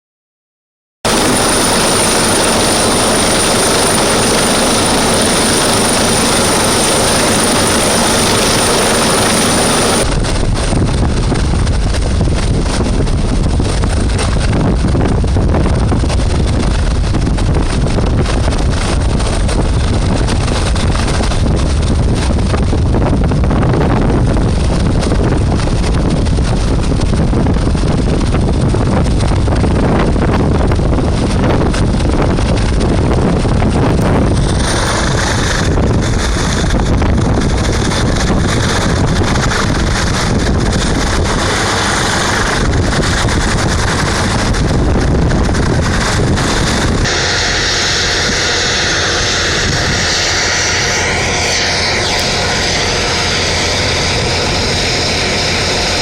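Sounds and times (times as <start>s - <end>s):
helicopter rotor wash on microphone: 1.1s - 56.0s.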